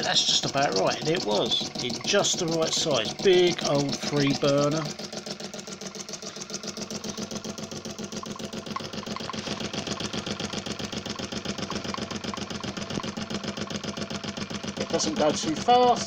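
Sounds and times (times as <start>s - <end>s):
steady hum: 0.0s - 16.0s
steam engine exhaust beating: 0.0s - 16.0s.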